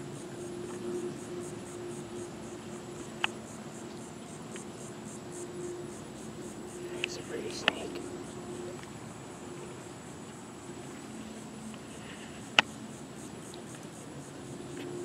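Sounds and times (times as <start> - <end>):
insects chirping: 0.0 - 15.0
low steady hum: 0.0 - 15.0.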